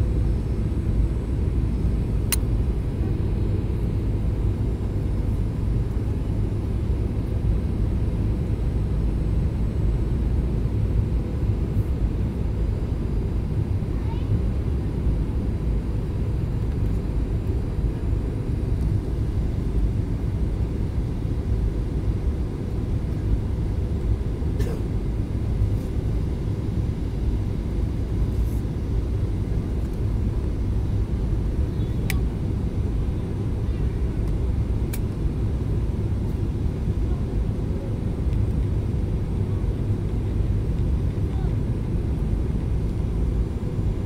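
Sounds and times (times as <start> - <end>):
jet airliner cabin rumble: 0.0 - 44.0.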